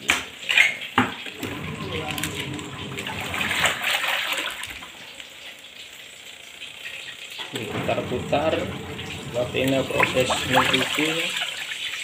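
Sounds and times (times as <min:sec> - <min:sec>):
washing machine water sloshing: 0:01.2 - 0:12.0.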